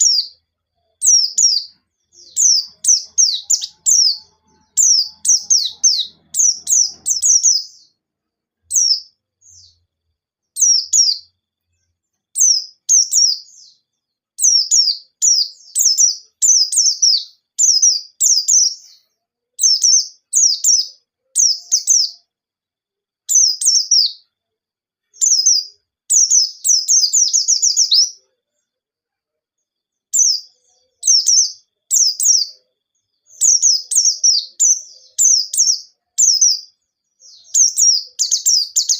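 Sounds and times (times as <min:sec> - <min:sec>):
bird singing high chirps: 0:00.0 - 0:08.0, 0:08.6 - 0:22.3, 0:23.3 - 0:24.4, 0:25.0 - 0:28.3, 0:29.9 - 0:38.9.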